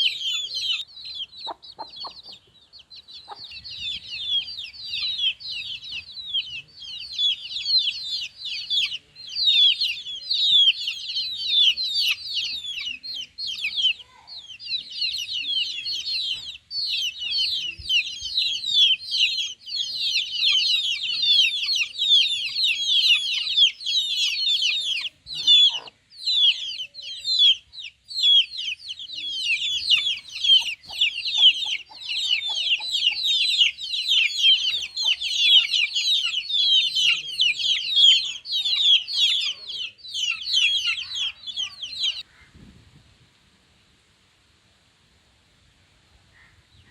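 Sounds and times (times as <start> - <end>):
chicks peeping: 0.0 - 42.7.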